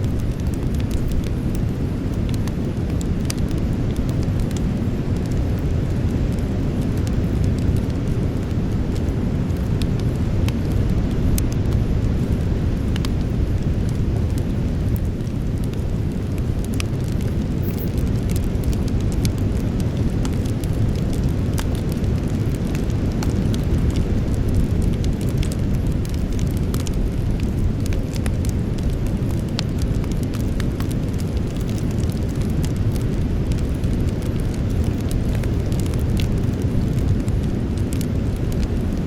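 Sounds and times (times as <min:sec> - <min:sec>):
crackles and pops of burning wood: 0:00.0 - 0:39.0
flames rumbling: 0:00.0 - 0:39.0.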